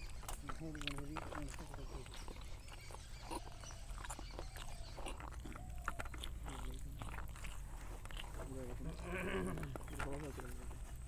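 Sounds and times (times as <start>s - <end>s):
faint animal calls: 0.0s - 10.5s
chewing and wet mouth sounds: 0.0s - 11.0s.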